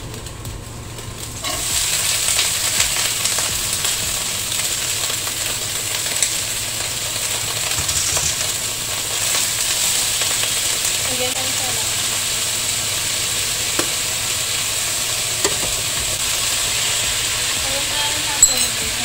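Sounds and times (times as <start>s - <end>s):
vegetables sizzling in a frying pan: 0.0s - 19.0s.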